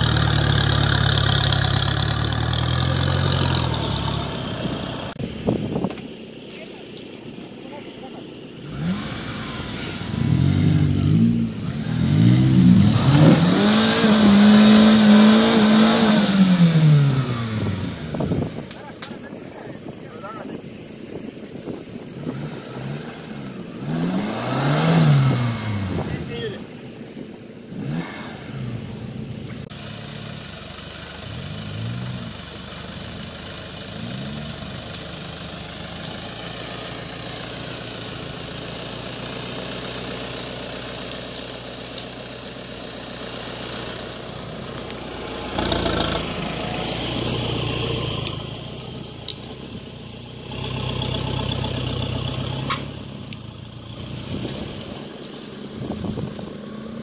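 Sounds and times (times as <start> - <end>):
off-road engines revving: 0.0 - 57.0.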